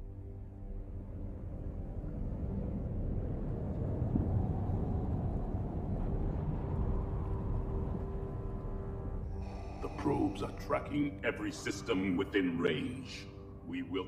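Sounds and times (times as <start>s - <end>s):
deep steady rumble: 0.0s - 12.4s.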